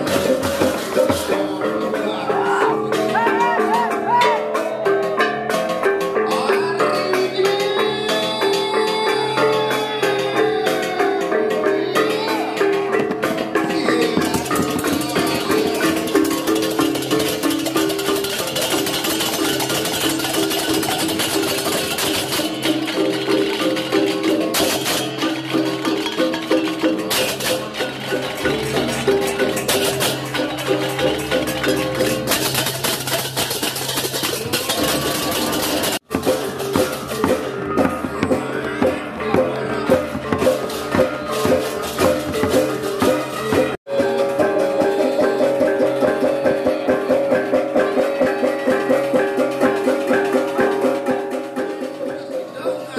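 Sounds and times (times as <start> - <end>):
gamelan music: 0.0 - 52.9.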